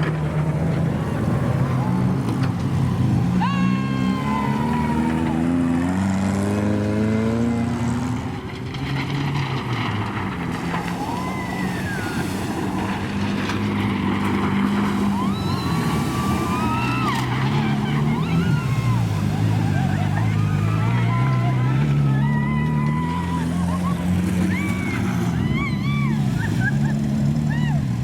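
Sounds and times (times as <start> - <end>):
jeep engine revving: 0.0 - 28.0
water rushing and splashing: 0.0 - 28.0
passengers whooping: 0.5 - 6.8, 10.5 - 28.0.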